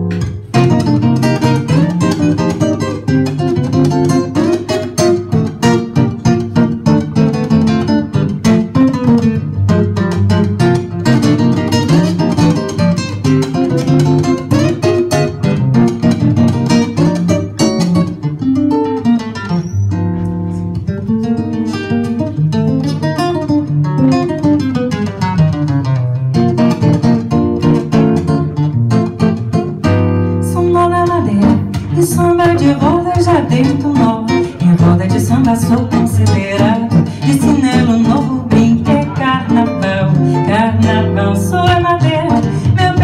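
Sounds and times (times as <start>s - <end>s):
acoustic guitar samba: 0.0s - 43.0s.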